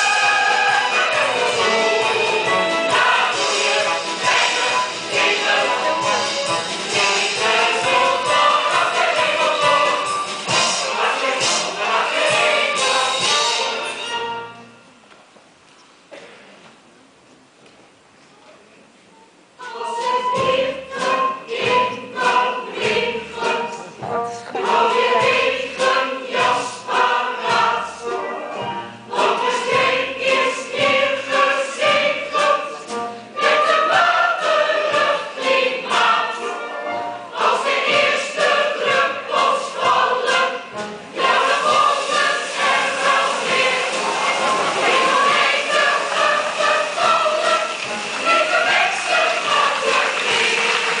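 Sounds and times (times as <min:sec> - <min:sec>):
choir singing: 0:00.0 - 0:14.7, 0:19.6 - 0:51.0
musical accompaniment: 0:00.0 - 0:15.2, 0:19.6 - 0:51.0.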